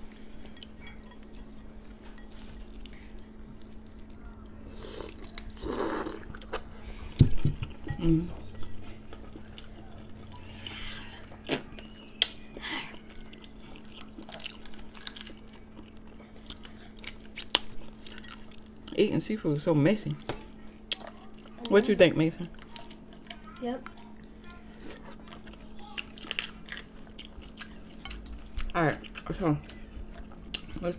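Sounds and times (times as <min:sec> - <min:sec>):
chewing and wet mouth sounds: 0:00.0 - 0:19.1, 0:20.1 - 0:30.9.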